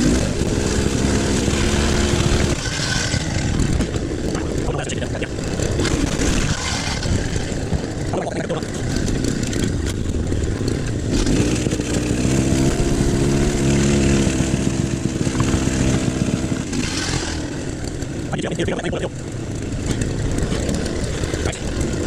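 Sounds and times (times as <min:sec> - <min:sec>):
excavator engine drone: 0:00.0 - 0:22.0.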